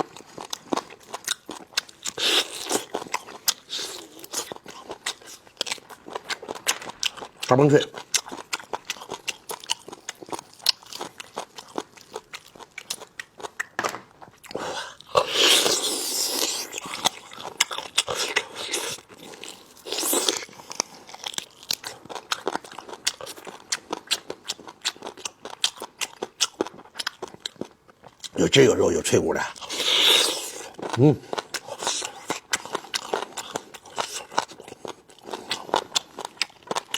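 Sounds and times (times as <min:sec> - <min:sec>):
chewing meat with crunches: 0:00.0 - 0:28.8, 0:29.4 - 0:36.9.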